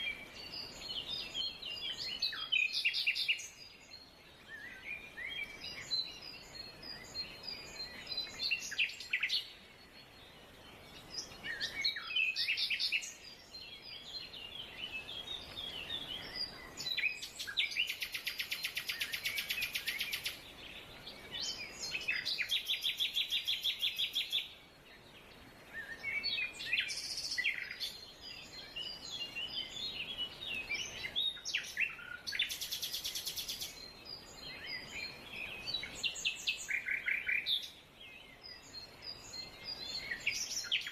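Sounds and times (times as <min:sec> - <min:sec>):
songbirds chirping and whistling: 0:00.0 - 0:40.9.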